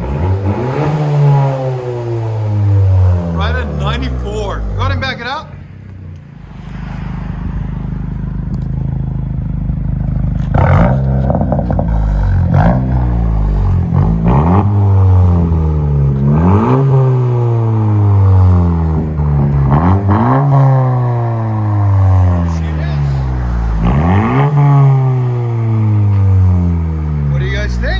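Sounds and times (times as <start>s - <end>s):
car engine revving: 0.0s - 27.9s
exhaust crackles: 0.0s - 27.9s.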